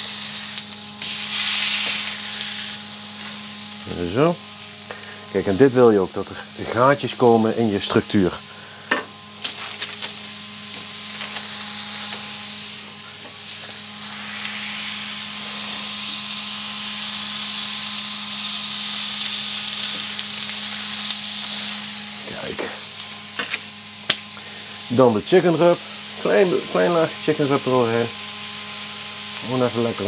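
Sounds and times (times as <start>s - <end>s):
burger patties sizzling on griddle: 0.0s - 30.0s.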